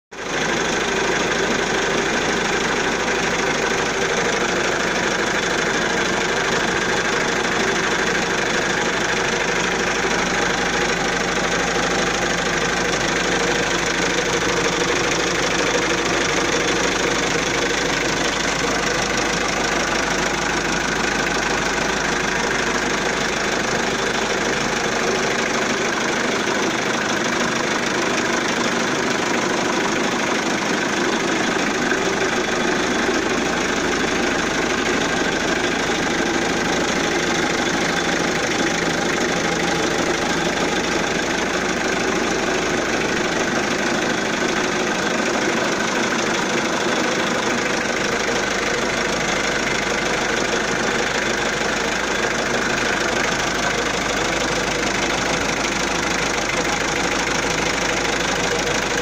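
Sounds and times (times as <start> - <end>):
diesel engine idling: 0.1 - 59.0.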